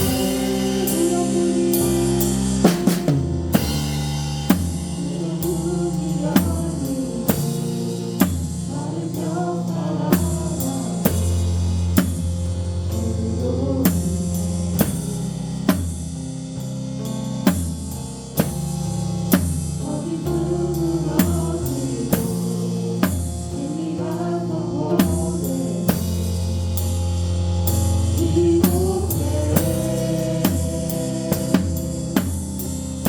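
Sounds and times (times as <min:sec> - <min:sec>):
bass drum and snare beat: 0:00.0 - 0:08.8, 0:10.0 - 0:23.6, 0:25.0 - 0:33.0
praise band music: 0:00.0 - 0:33.0
sustained low chords: 0:00.0 - 0:33.0.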